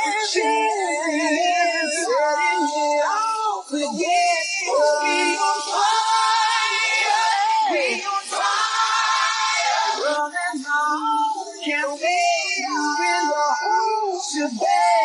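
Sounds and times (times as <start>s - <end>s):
voices singing held notes: 0.0s - 15.0s.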